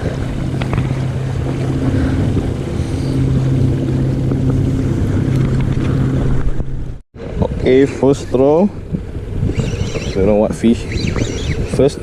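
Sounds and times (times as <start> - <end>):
motorboat engine humming: 0.0 - 12.0
water noise: 0.0 - 12.0
wind: 0.0 - 12.0.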